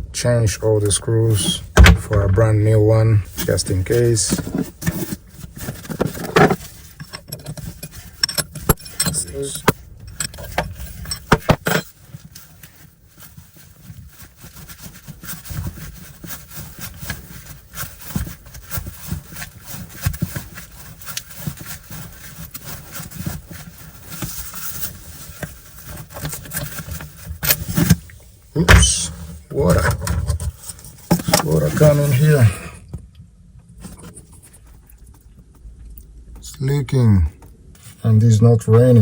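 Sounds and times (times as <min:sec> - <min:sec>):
knocks clicks and scrapes on fittings: 0:00.8 - 0:32.3.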